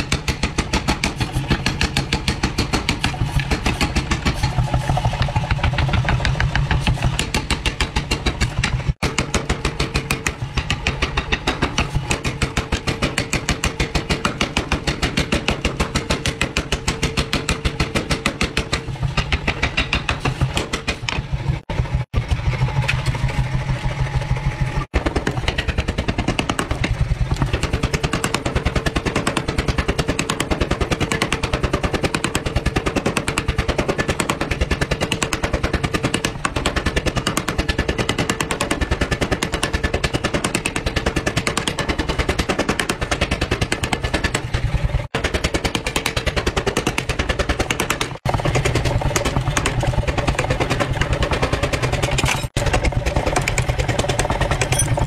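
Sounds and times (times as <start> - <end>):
power hammer pounding metal: 0.0 - 55.0.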